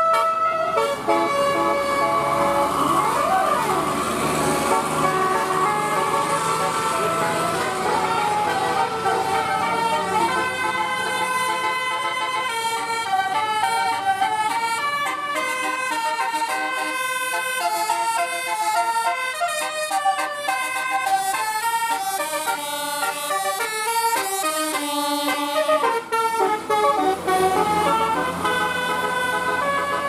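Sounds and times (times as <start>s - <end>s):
multi-note bus horn tune: 0.0s - 30.0s.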